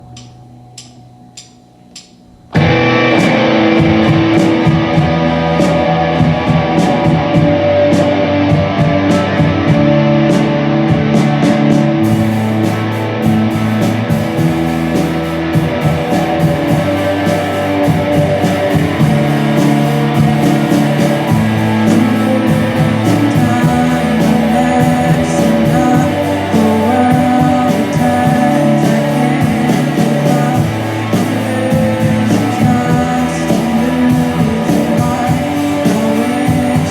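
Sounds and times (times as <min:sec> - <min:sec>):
bass guitar: 0:00.0 - 0:36.9
drums: 0:00.0 - 0:36.9
electric guitar: 0:02.5 - 0:36.9.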